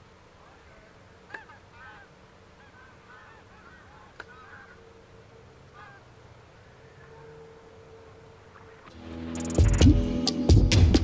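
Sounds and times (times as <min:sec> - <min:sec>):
honking bird calls: 0:00.0 - 0:08.9.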